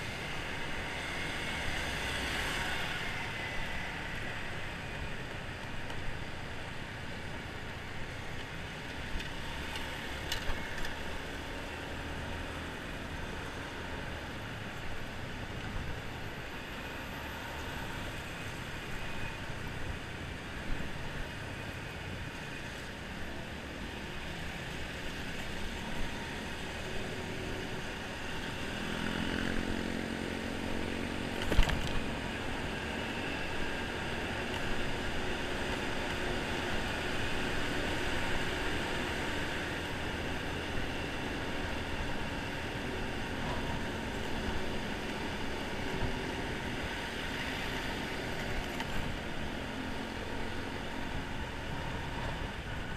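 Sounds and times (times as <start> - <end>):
road and traffic noise: 0.0 - 52.9.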